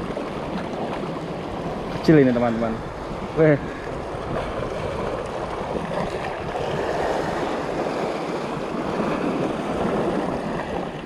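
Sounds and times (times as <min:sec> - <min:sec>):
surf washing over rocks: 0:00.0 - 0:11.0
wind on microphone: 0:00.0 - 0:11.0.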